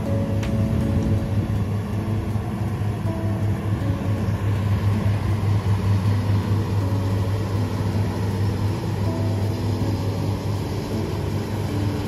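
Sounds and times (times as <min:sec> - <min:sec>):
combine harvester humming: 0:00.0 - 0:12.0.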